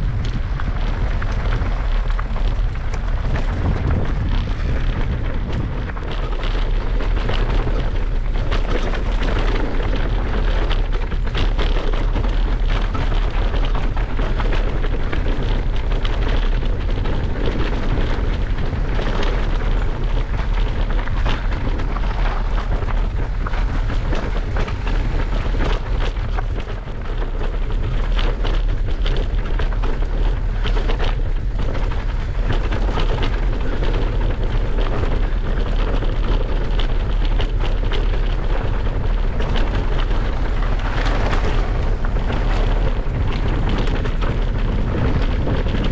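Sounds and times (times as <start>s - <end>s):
rapid rattling clicks: 0.0s - 45.9s
tyre noise: 0.0s - 45.9s
wind buffeting microphone: 0.0s - 45.9s.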